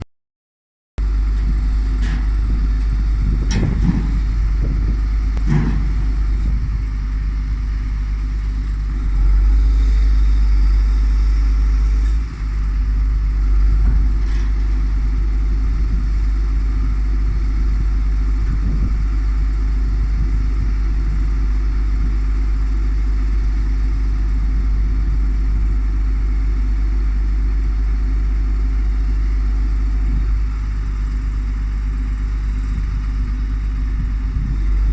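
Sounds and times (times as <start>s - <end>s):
diesel truck engine running: 1.0s - 34.9s.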